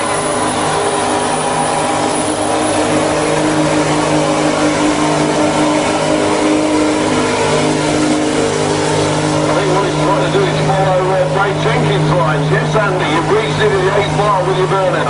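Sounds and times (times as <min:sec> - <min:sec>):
spinning tyres hissing: 0:00.0 - 0:14.1
diesel engine at high revs: 0:00.0 - 0:15.0.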